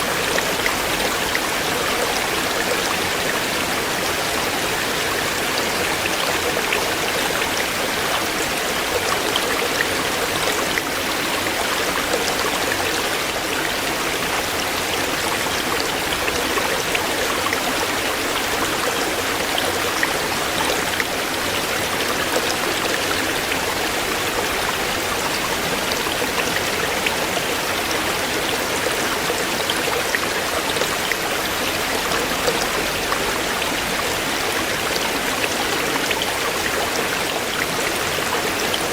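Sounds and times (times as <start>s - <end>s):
stream flowing over stones: 0.0s - 38.9s
water splashes and drips: 0.0s - 38.9s.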